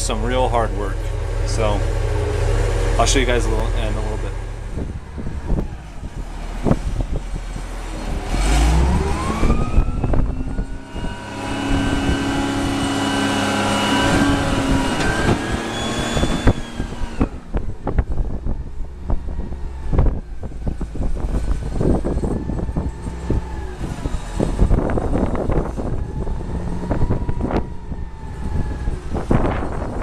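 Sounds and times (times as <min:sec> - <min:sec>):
wheel loader engine revving: 0:00.0 - 0:30.0.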